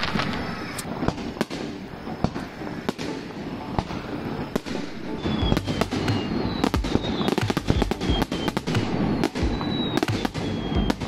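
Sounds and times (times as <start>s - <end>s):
fireworks bangs: 0.0s - 11.0s
high falling whistles: 1.6s - 11.0s.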